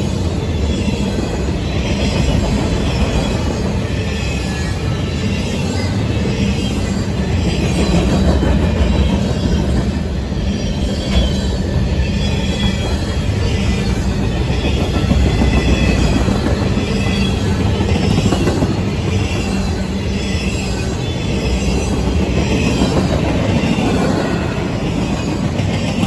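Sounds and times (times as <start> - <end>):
freight train wheels rumbling: 0.0 - 26.0
faint high wheel squeals: 0.4 - 24.9.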